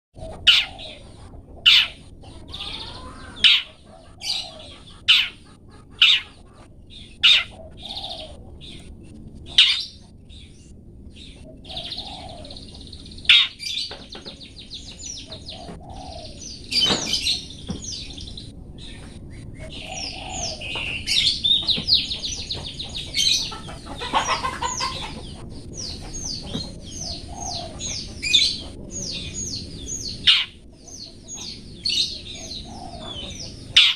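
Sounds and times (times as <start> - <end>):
bird calling and trilling: 0.2 - 33.9.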